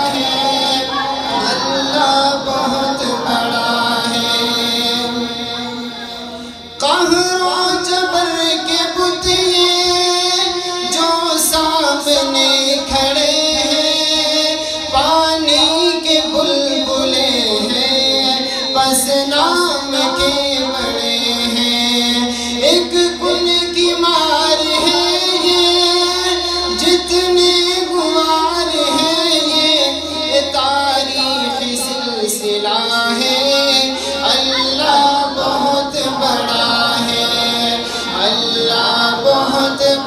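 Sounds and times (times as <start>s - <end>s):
man singing through loudspeakers: 0.0s - 40.0s.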